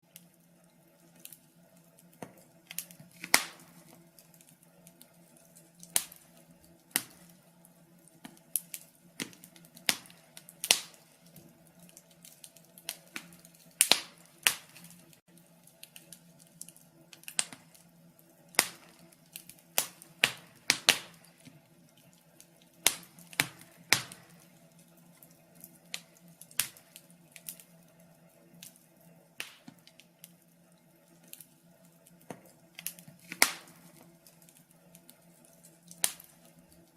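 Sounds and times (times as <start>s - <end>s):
faint steady hum: 0.0s - 36.9s
fire crackling and popping: 0.0s - 36.9s.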